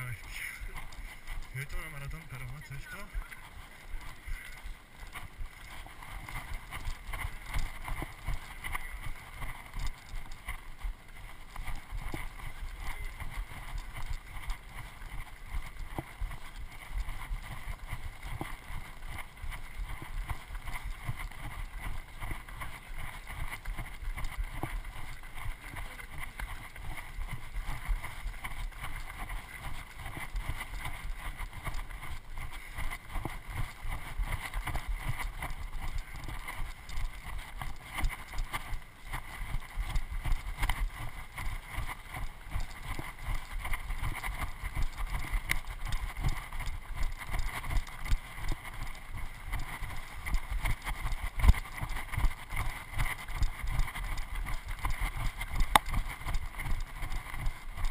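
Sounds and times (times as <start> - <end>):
running footfalls on rocky path: 0.0 - 57.9.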